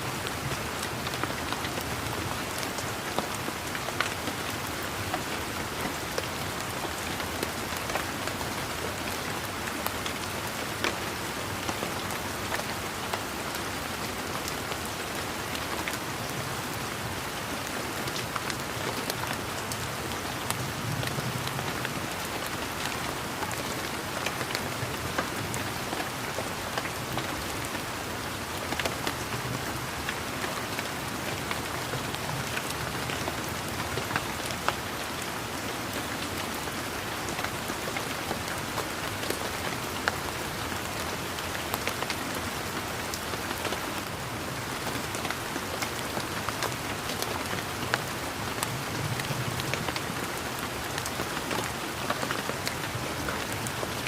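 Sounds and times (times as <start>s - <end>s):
steady rain falling: 0.0s - 54.0s
raindrops ticking nearby: 0.1s - 54.0s.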